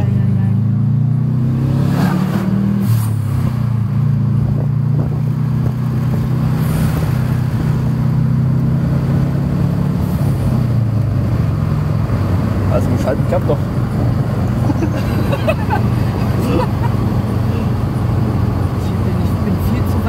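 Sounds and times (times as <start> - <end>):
car engine running: 0.0 - 20.0
tyre and road noise: 0.0 - 20.0.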